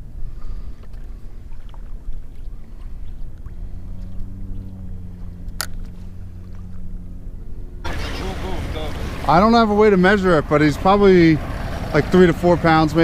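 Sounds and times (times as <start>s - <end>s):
steady low hum: 0.0s - 13.0s
wind and water rumble: 0.0s - 13.0s.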